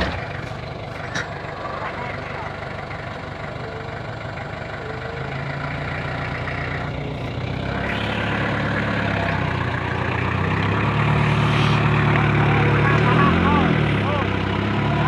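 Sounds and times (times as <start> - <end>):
pickup engine revving: 0.0 - 3.3, 5.3 - 15.0.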